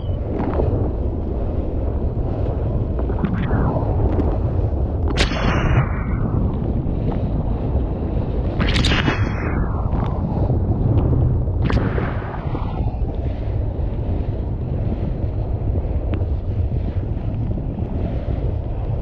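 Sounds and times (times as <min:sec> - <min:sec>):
boat and water noise: 0:00.0 - 0:19.0
wind buffeting microphone: 0:00.0 - 0:19.0.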